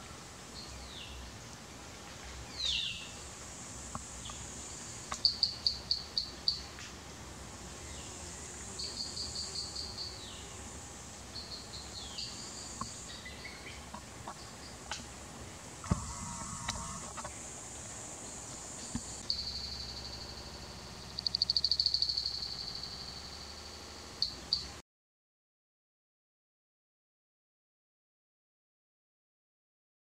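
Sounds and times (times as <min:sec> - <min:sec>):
high hum of insects: 0:00.0 - 0:24.8.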